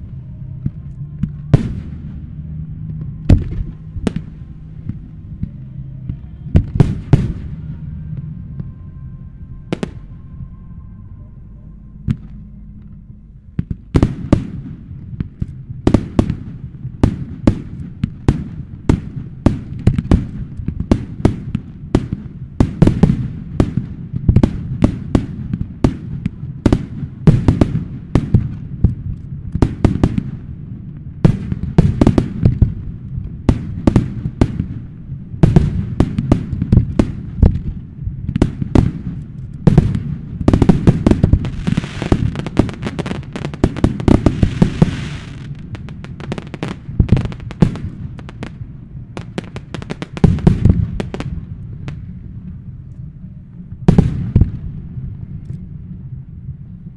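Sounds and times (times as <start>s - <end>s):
fireworks crackling: 0.0s - 8.9s, 13.6s - 52.7s
fireworks bursts and bangs: 0.6s - 8.7s, 13.6s - 52.0s.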